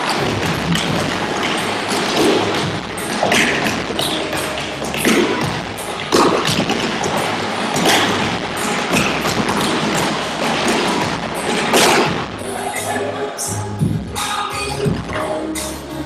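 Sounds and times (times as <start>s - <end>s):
recorded music: 0.0s - 16.0s.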